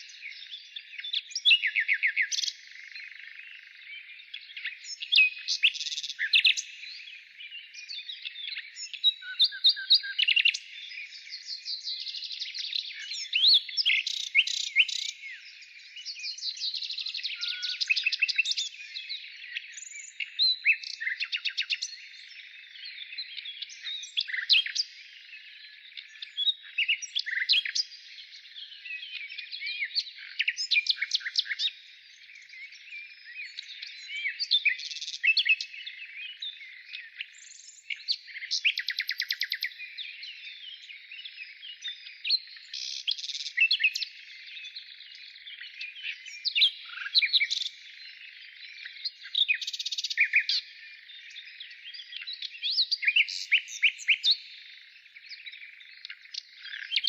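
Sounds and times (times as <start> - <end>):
wild birds singing: 0.0 - 57.0.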